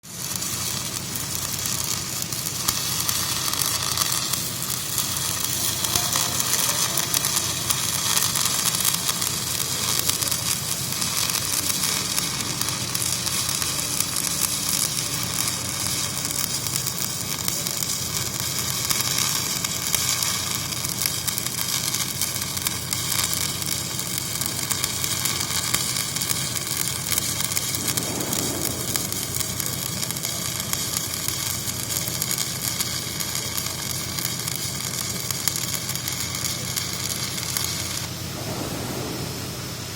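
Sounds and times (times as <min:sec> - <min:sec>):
welding arc sizzling and crackling: 0:00.0 - 0:39.9.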